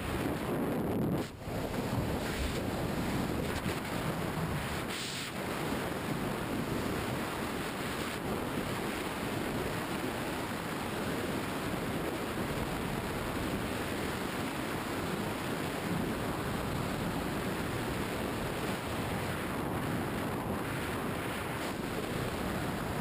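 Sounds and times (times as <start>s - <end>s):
wind roaring over microphone: 0.0s - 23.0s.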